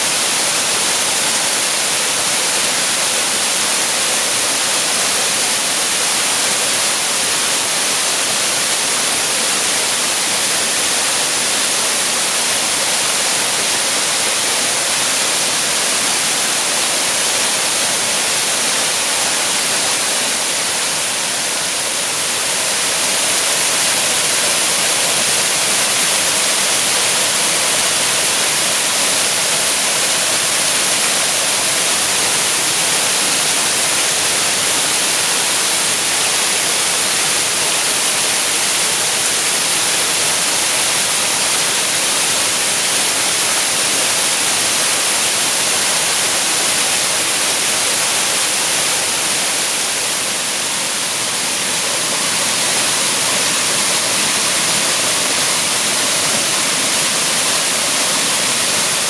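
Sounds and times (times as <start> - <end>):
waterfall pouring: 0.0 - 59.0.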